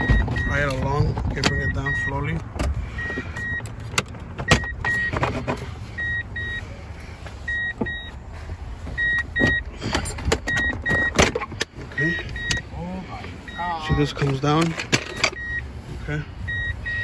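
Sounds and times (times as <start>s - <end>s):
dashboard warning chime beeping: 0.0s - 3.7s, 4.4s - 8.2s, 8.9s - 17.0s.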